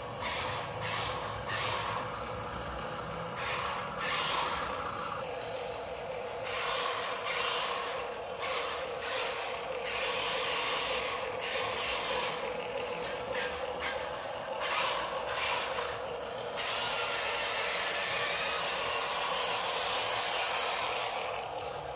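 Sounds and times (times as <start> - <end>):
toy truck electric motor whining: 0.0 - 21.9.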